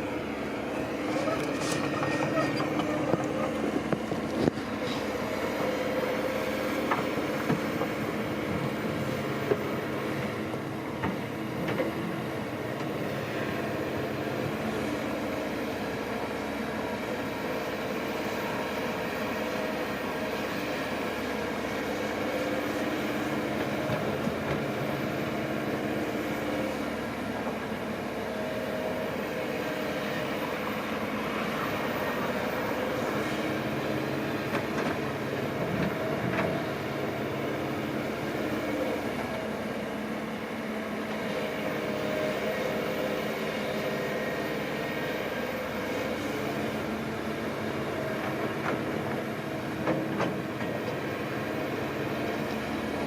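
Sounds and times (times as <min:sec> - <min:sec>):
earthmoving machinery engine: 0:00.0 - 0:53.0.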